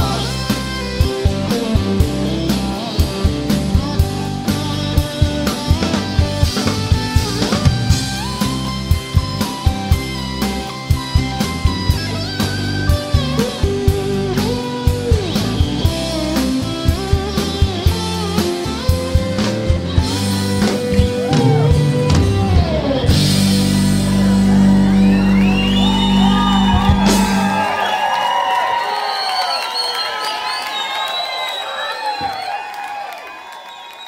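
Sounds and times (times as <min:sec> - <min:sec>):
rock song with singing: 0:00.0 - 0:28.0
crowd cheering and shouting: 0:00.0 - 0:34.0.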